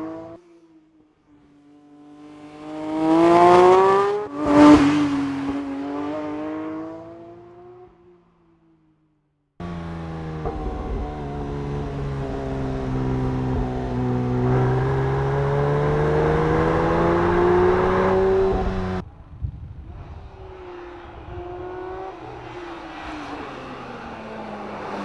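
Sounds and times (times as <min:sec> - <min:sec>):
car engine revving: 0:02.3 - 0:08.0, 0:09.6 - 0:25.0.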